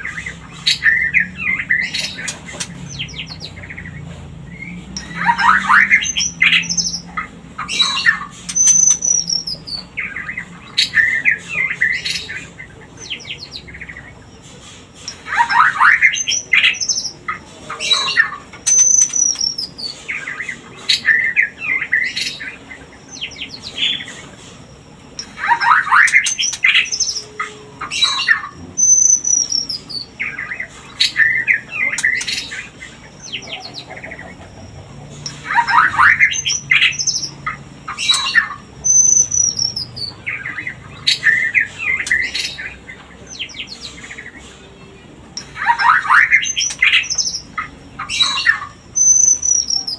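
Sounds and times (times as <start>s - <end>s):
bird chattering and whistling: 0.0s - 49.9s.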